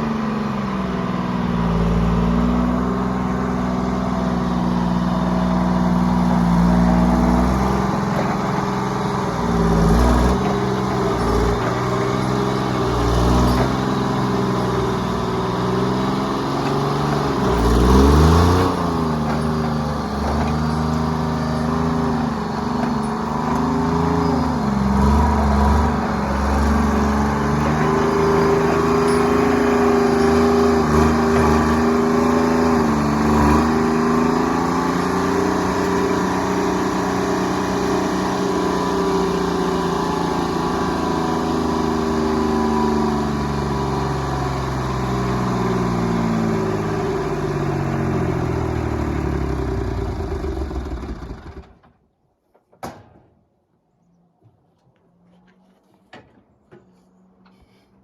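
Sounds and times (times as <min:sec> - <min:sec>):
diesel engine running: 0:00.0 - 0:51.8.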